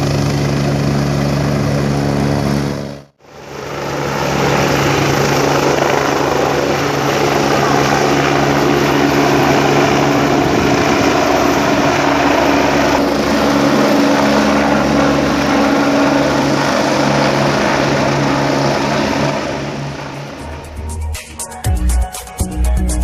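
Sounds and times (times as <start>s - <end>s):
helicopter engine and rotor: 0.0s - 21.6s.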